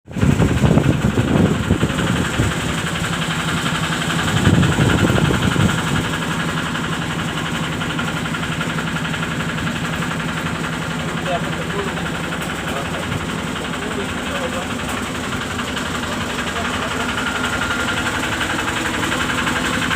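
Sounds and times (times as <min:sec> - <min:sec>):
excavator diesel engine idling: 0:00.1 - 0:19.9.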